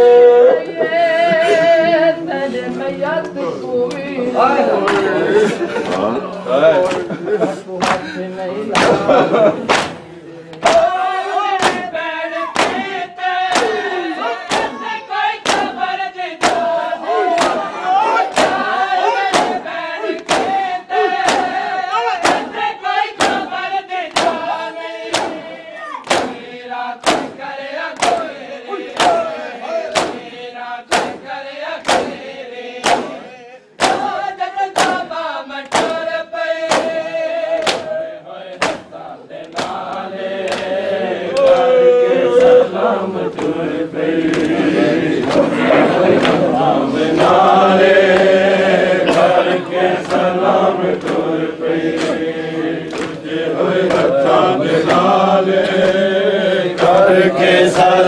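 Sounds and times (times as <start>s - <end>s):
men chanting a lament: 0.0s - 58.0s
chest-beating slaps: 6.8s - 7.2s, 7.8s - 8.1s, 8.7s - 41.7s, 43.3s - 56.1s, 56.7s - 58.0s.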